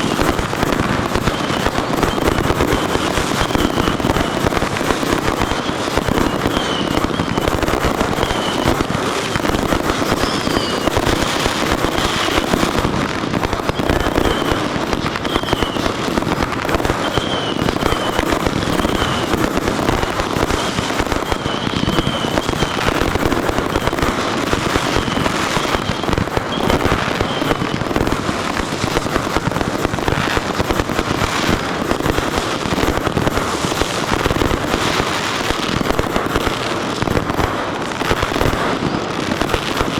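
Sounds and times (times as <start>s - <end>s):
fireworks bursts and crackle: 0.0s - 39.9s
high whistling fireworks: 0.0s - 39.9s.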